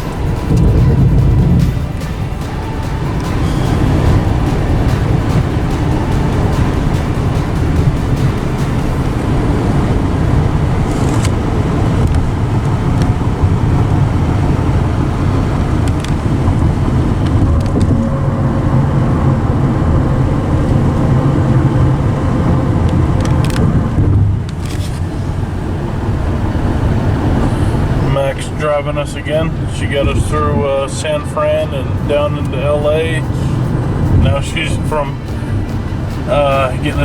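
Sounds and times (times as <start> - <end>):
car road noise rumble: 0.0 - 37.0.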